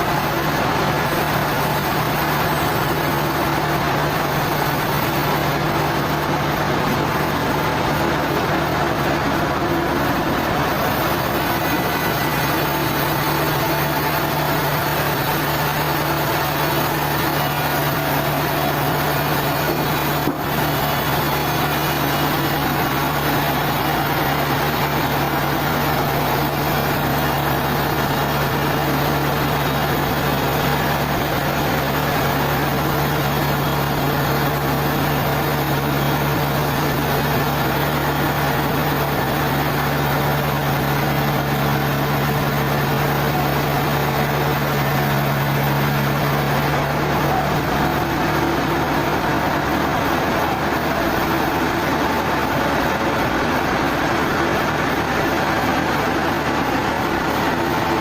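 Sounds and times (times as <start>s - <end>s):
high steady machine tone: 0.0s - 58.0s
sawmill machinery humming: 0.0s - 58.0s.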